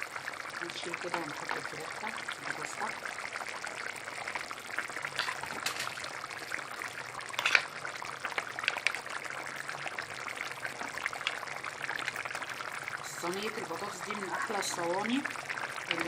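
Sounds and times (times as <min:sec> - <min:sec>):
sauce bubbling and popping: 0:00.0 - 0:16.0.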